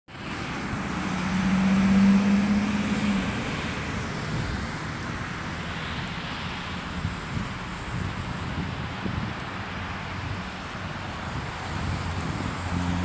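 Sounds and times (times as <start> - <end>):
street traffic noise: 0.1 - 13.0
vehicle passing by: 0.1 - 13.0.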